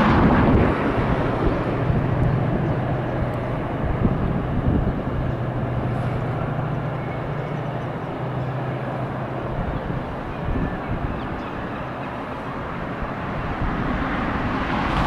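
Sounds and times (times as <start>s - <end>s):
distant freight train engine drone: 0.0s - 15.0s.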